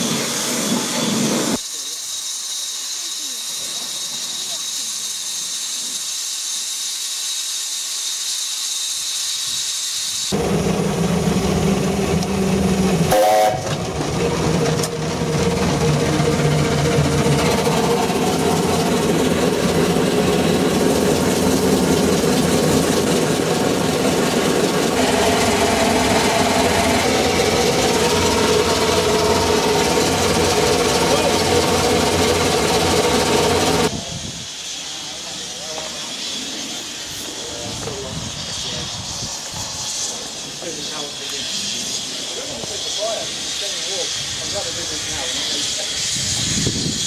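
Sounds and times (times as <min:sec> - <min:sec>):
pressure washer hissing: 0:00.0 - 0:47.0
steam vehicle running: 0:00.0 - 0:47.0.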